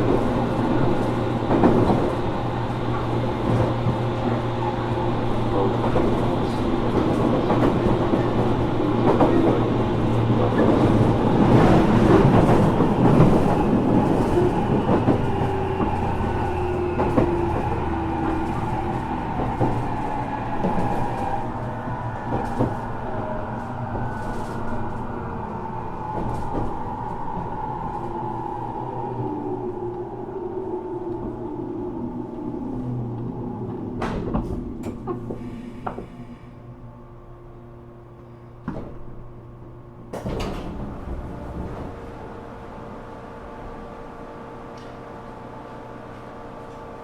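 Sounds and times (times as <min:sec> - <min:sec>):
rail joint clicks: 0:00.0 - 0:36.4, 0:40.0 - 0:44.0, 0:44.6 - 0:47.0
wheel and rail rumble: 0:00.0 - 0:47.0.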